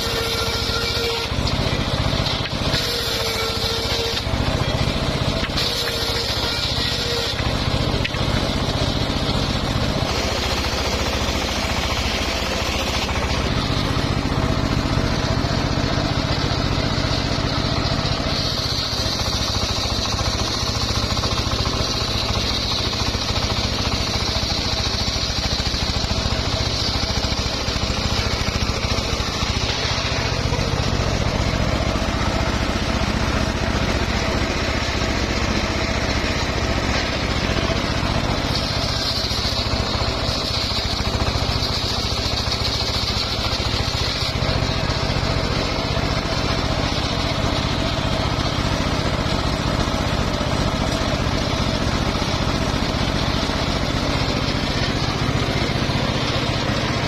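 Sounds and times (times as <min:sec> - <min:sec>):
circular sawmill sawing wood: 0:00.0 - 0:57.0
high saw blade whine: 0:00.0 - 0:57.0.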